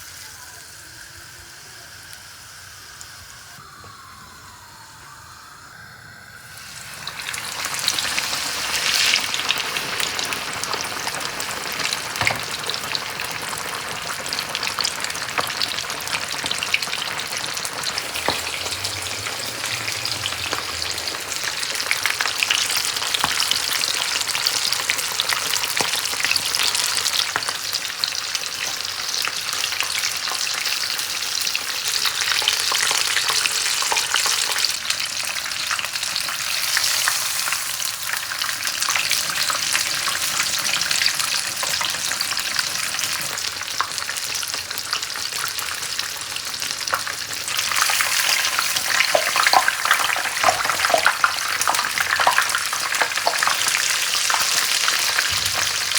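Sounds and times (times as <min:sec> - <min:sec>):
chicken deep-frying in hot oil: 0:00.0 - 0:55.9.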